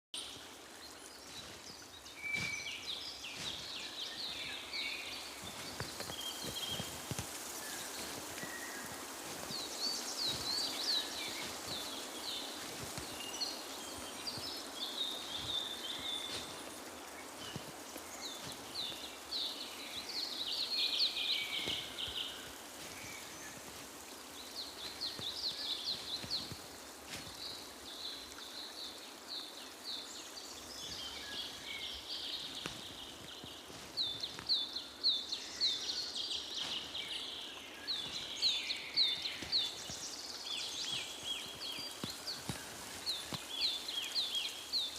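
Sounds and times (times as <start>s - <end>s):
songbirds chirping and trilling: 0.1s - 44.9s
faint background hiss: 0.2s - 44.9s.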